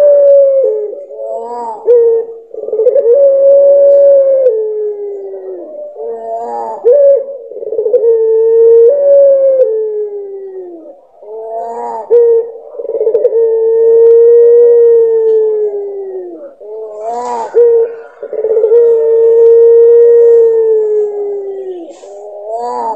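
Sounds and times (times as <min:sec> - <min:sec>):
dove cooing long notes: 0:00.0 - 0:22.9.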